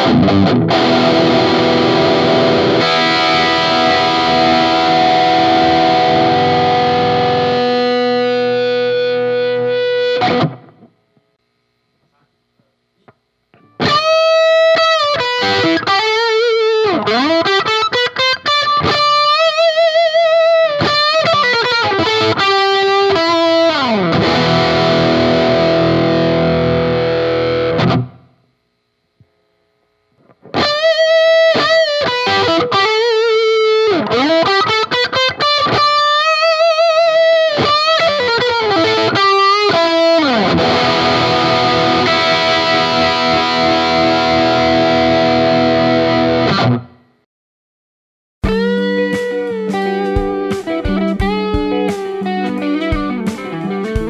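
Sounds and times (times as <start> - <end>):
overdriven electric guitar lead: 0.0 - 11.0, 13.5 - 28.4, 30.2 - 47.1, 48.4 - 54.0.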